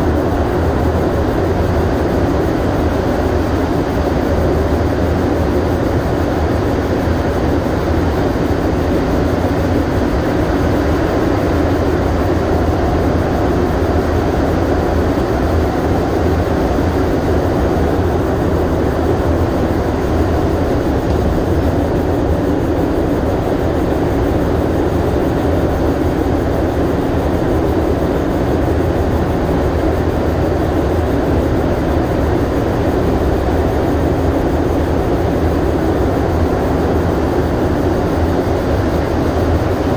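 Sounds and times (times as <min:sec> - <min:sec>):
train rolling rumble in tunnel: 0:00.0 - 0:39.9.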